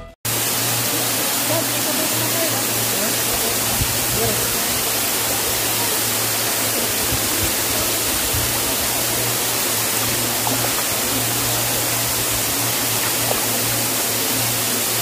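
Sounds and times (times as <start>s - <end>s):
waterfall rushing: 0.3s - 15.0s.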